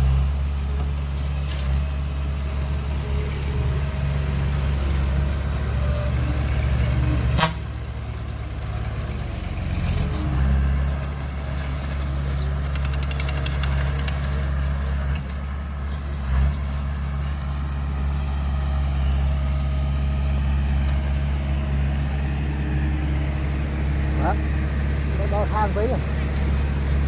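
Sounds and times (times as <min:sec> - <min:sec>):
diesel machinery engine drone: 0:00.0 - 0:27.0.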